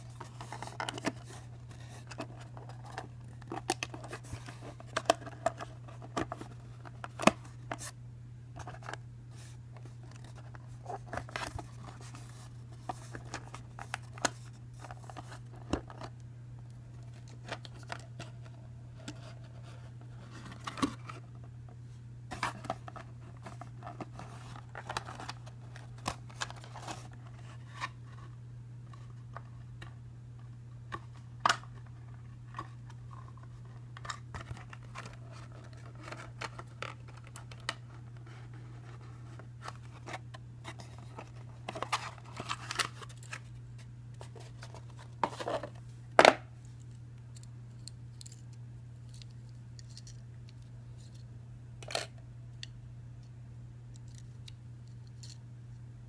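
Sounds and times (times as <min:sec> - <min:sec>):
handling packaging clicks and rustles: 0:00.0 - 0:52.2
steady low hum: 0:00.0 - 0:56.0.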